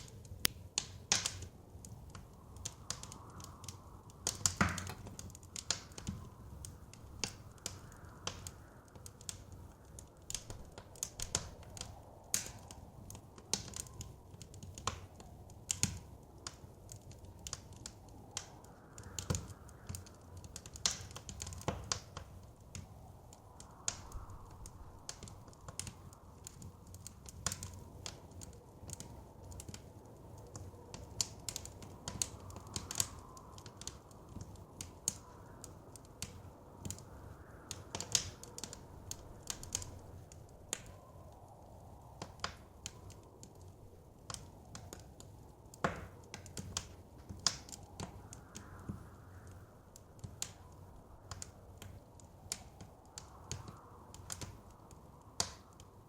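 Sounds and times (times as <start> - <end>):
soft wind: 0.0 - 56.0
wood fire crackling: 0.0 - 56.0.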